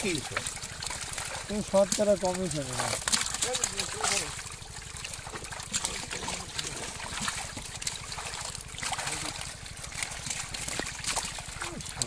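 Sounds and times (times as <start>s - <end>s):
fish thrashing and splashing: 0.0s - 12.0s
water dripping: 0.0s - 12.0s.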